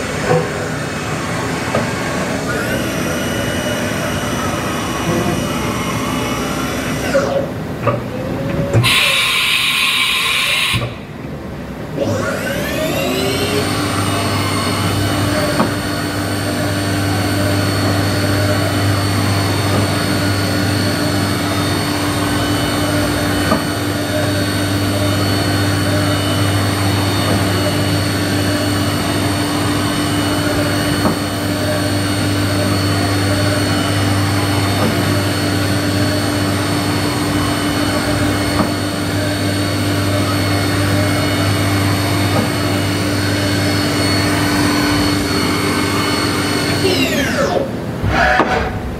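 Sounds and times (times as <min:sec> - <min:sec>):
milling machine hum and whine: 0:00.0 - 0:48.9.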